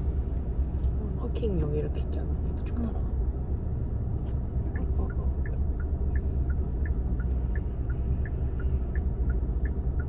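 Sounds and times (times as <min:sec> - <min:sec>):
low car cabin rumble: 0:00.0 - 0:10.0.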